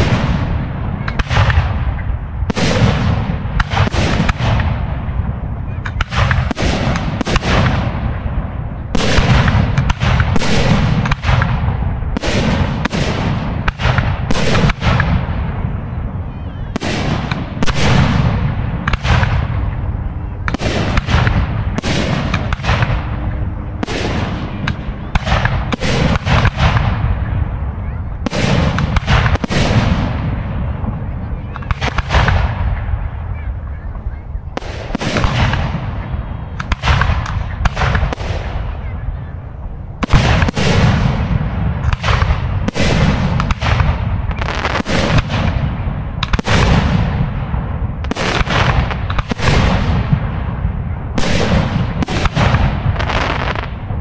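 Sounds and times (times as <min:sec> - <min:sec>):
fireworks bursting: 0:00.0 - 0:54.0
low rumble of echoes: 0:00.0 - 0:54.0.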